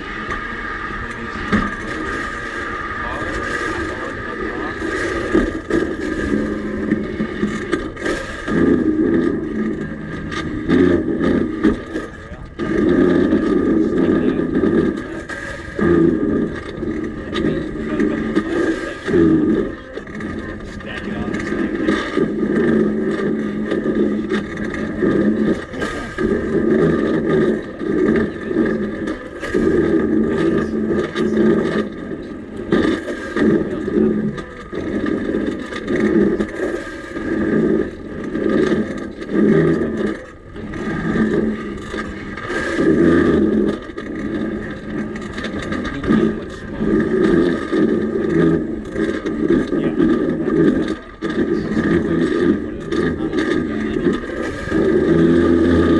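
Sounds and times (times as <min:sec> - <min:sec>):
railbike rolling on track: 0:00.0 - 0:55.9.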